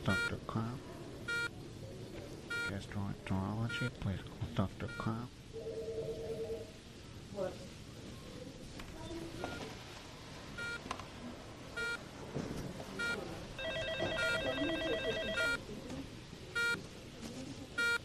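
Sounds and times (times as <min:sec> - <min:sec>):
faint murmur of voices: 0:00.0 - 0:18.0.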